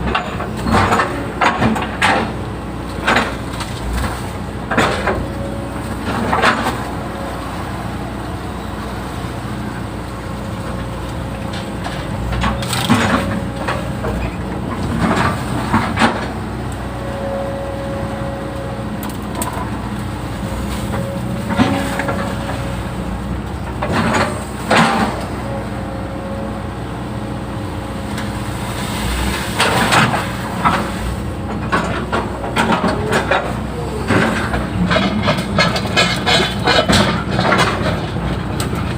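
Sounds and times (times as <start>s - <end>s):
excavator engine hum: 0.0s - 38.9s.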